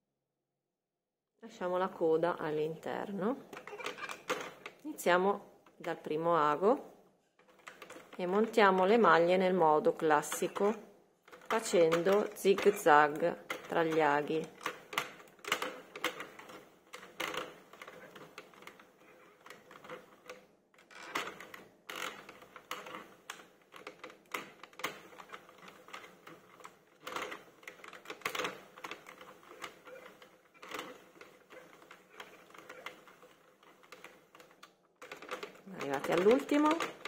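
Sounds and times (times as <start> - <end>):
knitting machine needles clicking: 2.7 - 6.8, 7.4 - 37.0.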